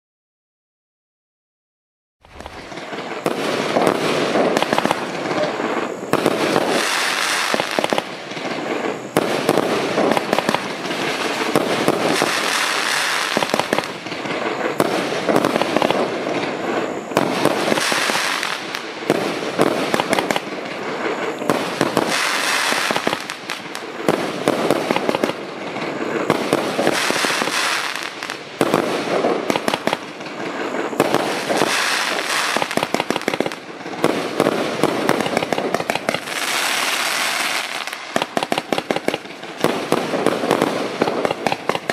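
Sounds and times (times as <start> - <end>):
fireworks launching and bursting: 2.2 - 41.9.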